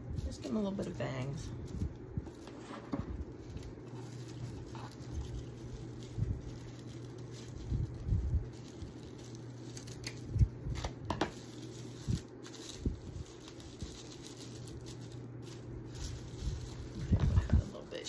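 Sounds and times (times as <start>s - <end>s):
rustling: 0.0s - 18.0s
steady low hum: 0.0s - 18.0s.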